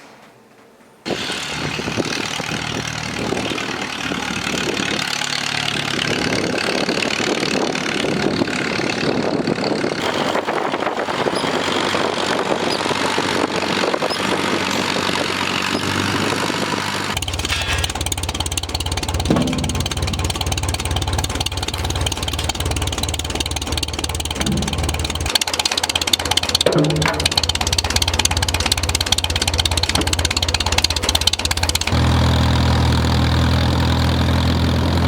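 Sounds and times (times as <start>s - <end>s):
tractor engine running: 1.1s - 35.0s.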